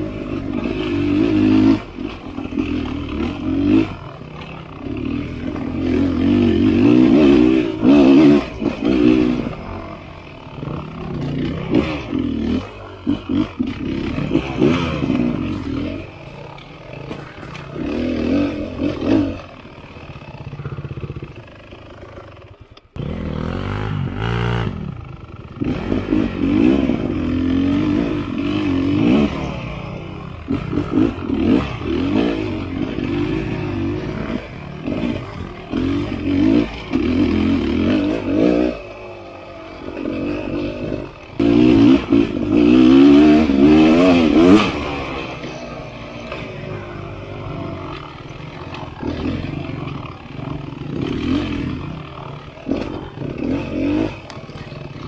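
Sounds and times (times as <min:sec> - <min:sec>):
bike rattling over bumps: 0:00.0 - 0:55.0
dirt bike engine revving: 0:00.0 - 0:55.0.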